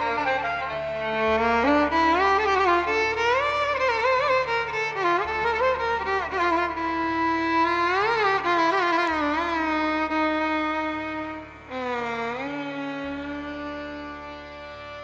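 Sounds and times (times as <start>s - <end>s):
low drone: 0.0s - 15.0s
violin melody: 0.0s - 15.0s.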